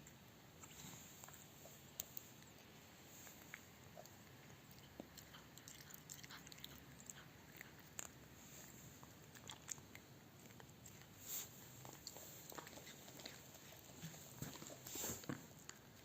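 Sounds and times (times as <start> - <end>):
cat chewing crunchy snack: 0.1 - 16.0.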